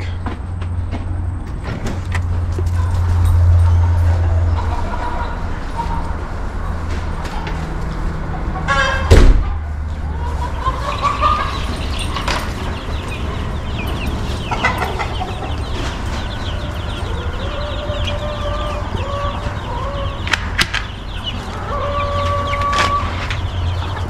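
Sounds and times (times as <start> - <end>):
chicks peeping: 2.4 - 24.0.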